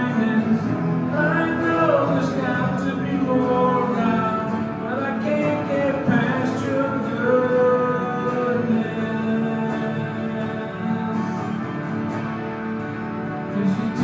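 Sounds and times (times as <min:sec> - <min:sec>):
man singing into a microphone: 0:00.0 - 0:11.8, 0:13.4 - 0:14.0
guitar strumming: 0:00.0 - 0:14.0.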